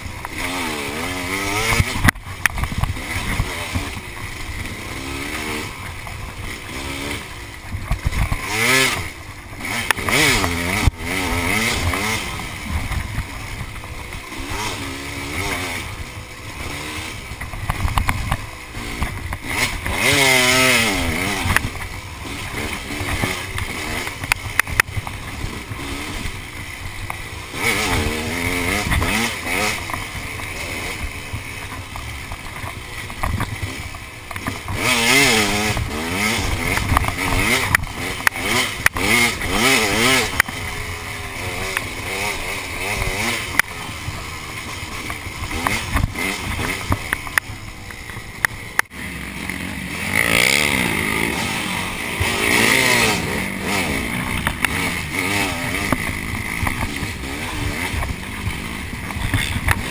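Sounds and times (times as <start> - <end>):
bike clattering over rough ground: 0.0 - 59.9
dirt bike engine revving: 0.0 - 59.9.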